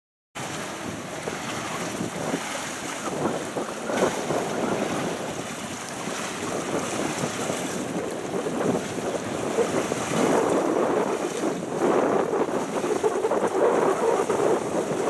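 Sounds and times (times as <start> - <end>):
sea waves: 0.4 - 15.0
wind buffeting microphone: 0.4 - 15.0.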